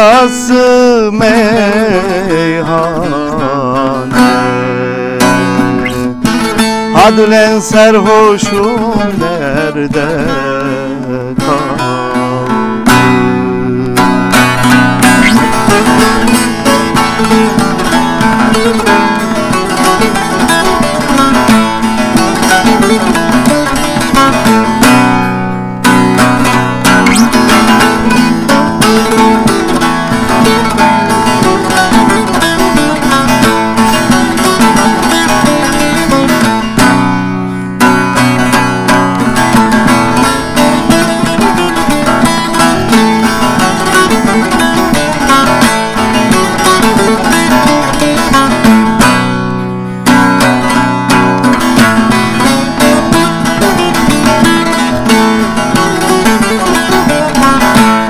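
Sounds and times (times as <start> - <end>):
long-necked lute picked melody: 0.0 - 58.0.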